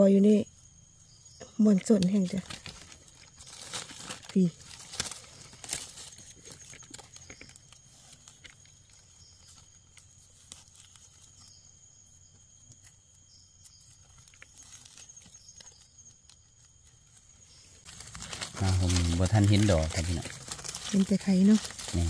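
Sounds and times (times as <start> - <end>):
rustling in leaf litter: 1.9 - 11.6, 13.8 - 22.0.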